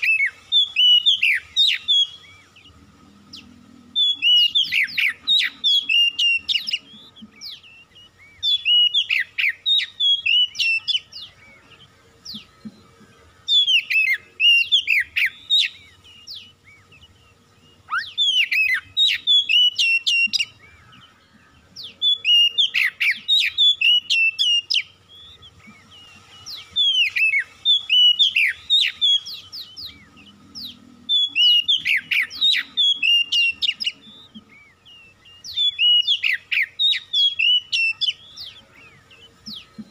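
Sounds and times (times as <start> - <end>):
bird singing whistled phrases: 0.0 - 2.7, 3.3 - 12.5, 13.4 - 39.9.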